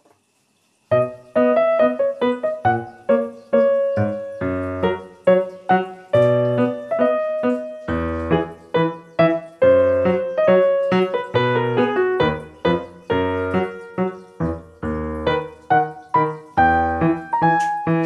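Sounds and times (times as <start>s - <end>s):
solo piano music: 0.9s - 18.0s.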